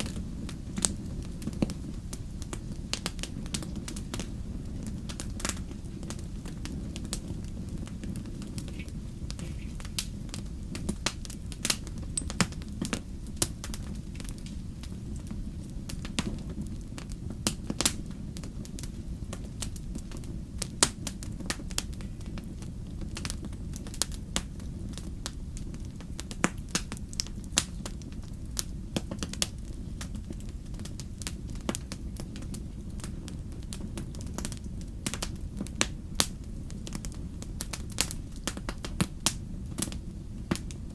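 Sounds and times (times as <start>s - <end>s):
wood fire crackling in fireplace: 0.0s - 40.9s.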